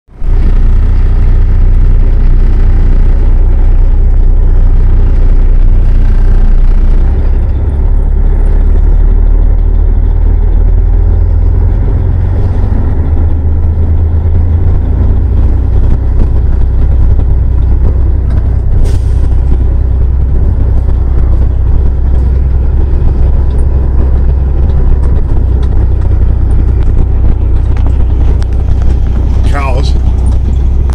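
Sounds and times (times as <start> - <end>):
engine low rumble: 0.0 - 30.9.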